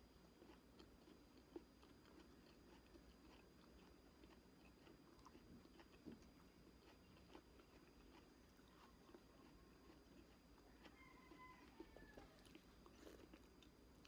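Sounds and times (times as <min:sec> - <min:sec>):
chewing an orange wedge: 0:00.0 - 0:14.0.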